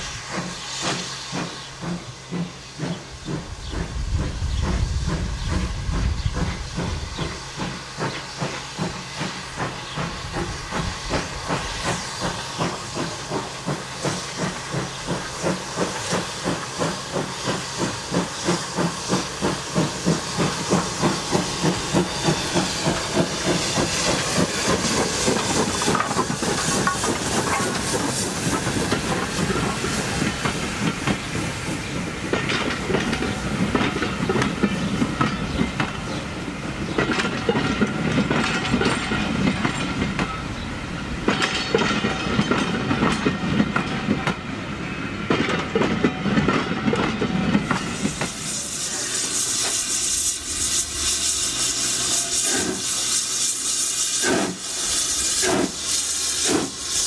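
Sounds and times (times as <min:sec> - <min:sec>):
steam hiss: 0:00.0 - 0:57.0
steam locomotive chuffing: 0:00.0 - 0:57.0.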